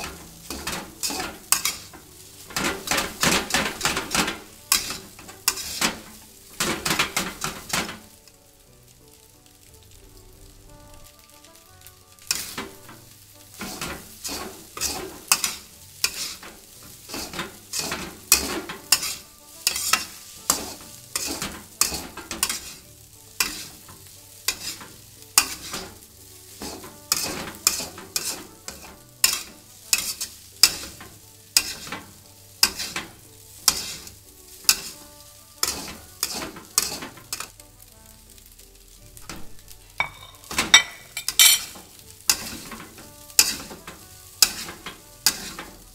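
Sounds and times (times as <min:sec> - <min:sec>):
spatula scraping metal wok: 0:00.0 - 0:08.1, 0:11.0 - 0:37.5, 0:39.9 - 0:45.9
light frying sizzle: 0:00.0 - 0:45.9.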